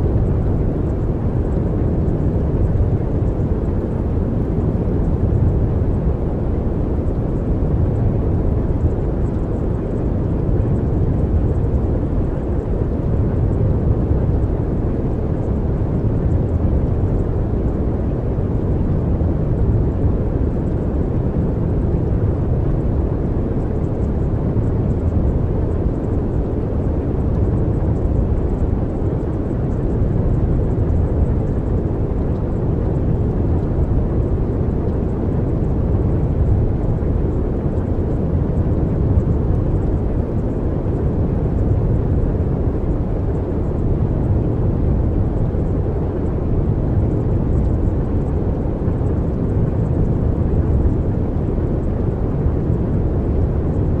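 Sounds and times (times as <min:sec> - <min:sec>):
deep rumbling noise: 0:07.7 - 0:54.0.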